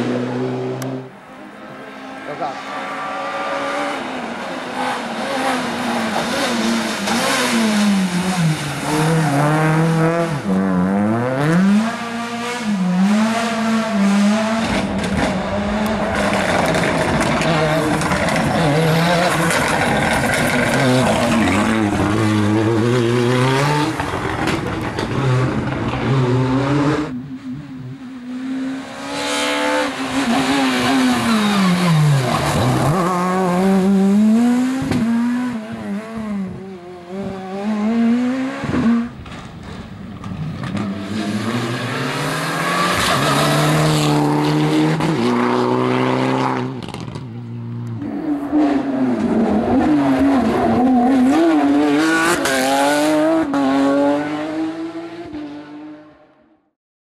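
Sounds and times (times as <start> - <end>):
rally car engines revving: 0.0 - 56.3.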